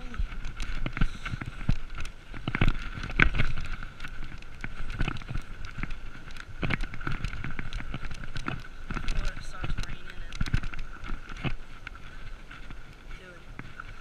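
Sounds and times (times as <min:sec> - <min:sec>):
bike clattering: 0:00.0 - 0:14.0
tyres crunching on gravel: 0:00.0 - 0:14.0.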